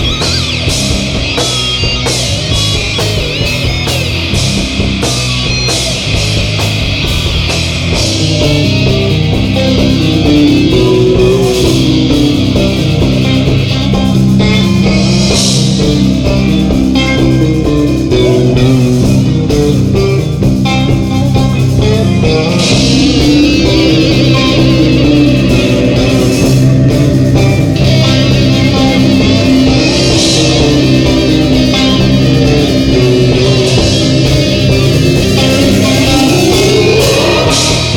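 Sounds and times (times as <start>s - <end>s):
rock band playing loud: 0.0s - 37.9s.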